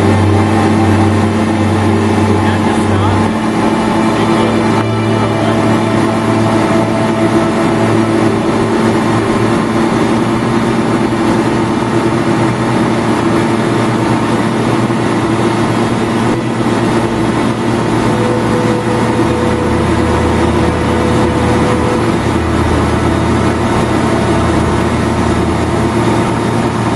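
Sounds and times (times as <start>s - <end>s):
deeper hum: 0.0s - 26.9s
motorboat engine running: 0.0s - 26.9s.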